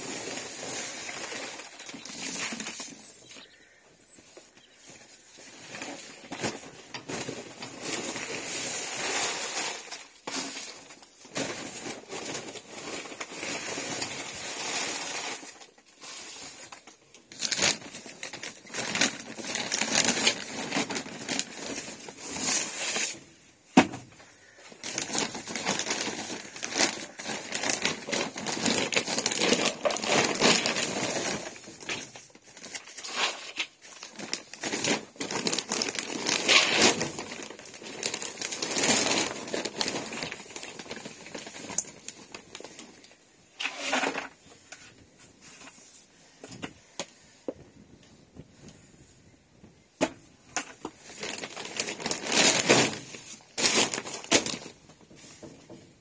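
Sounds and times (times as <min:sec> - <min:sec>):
bags rustling and crinkling: 0:00.0 - 0:49.0, 0:49.6 - 0:56.0.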